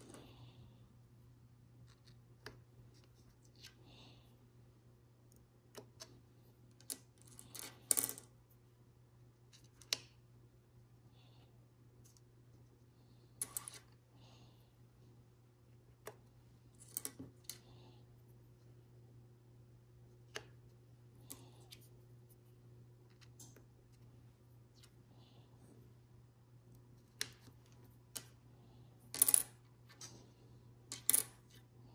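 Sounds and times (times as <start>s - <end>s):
faint steady low hum: 0.0s - 31.9s.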